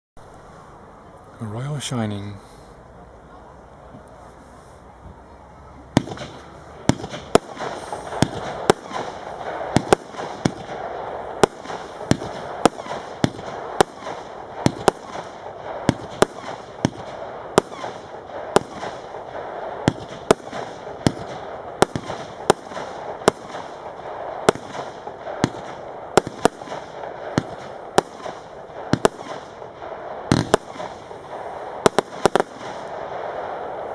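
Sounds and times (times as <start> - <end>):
fireworks hiss: 0.2 - 33.9
fireworks shots: 3.8 - 33.9.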